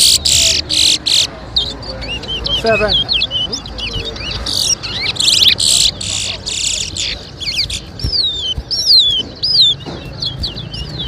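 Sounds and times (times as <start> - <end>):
finch singing: 0.0 - 11.0.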